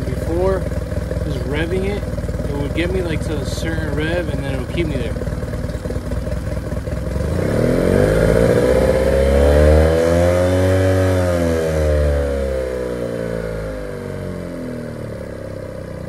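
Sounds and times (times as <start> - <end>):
outboard motor revving: 0.0 - 15.9.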